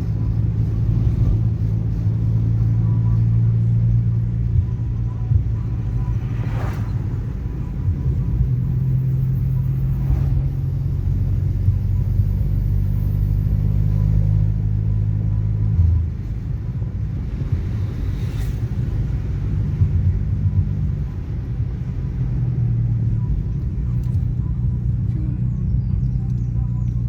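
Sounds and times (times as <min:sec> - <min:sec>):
heavy bass from car stereo: 0:00.0 - 0:27.0.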